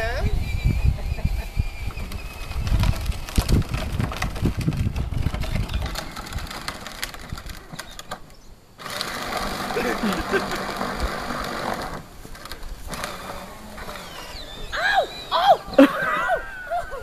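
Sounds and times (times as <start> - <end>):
plastic wheels crunching over gravel: 1.0 - 16.1.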